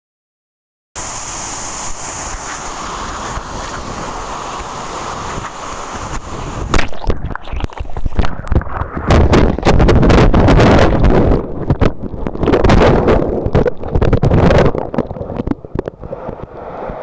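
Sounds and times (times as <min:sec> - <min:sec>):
steady rushing noise: 0:01.0 - 0:17.0
wind buffeting microphone: 0:01.9 - 0:17.0.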